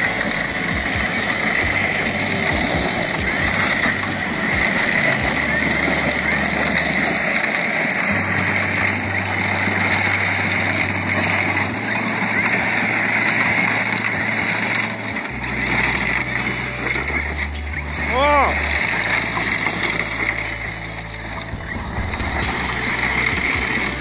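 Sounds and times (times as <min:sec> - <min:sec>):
background music with bass: 0:00.0 - 0:24.0.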